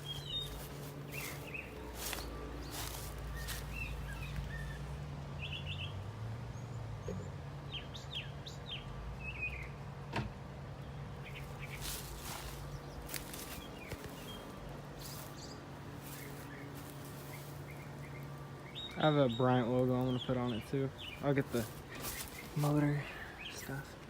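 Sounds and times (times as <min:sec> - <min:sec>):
birds chirping: 0:00.0 - 0:09.9, 0:10.7 - 0:24.0
low steady hum: 0:00.0 - 0:24.0.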